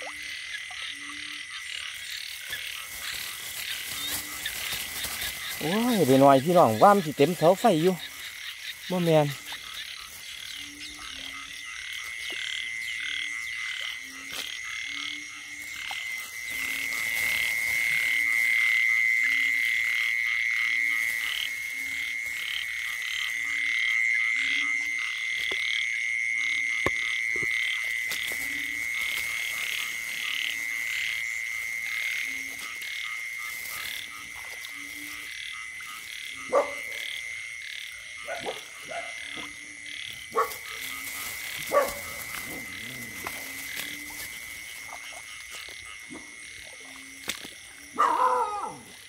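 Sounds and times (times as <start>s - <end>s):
high-pitched frog trill: 0.0s - 49.0s
low frog croaks: 0.0s - 49.0s.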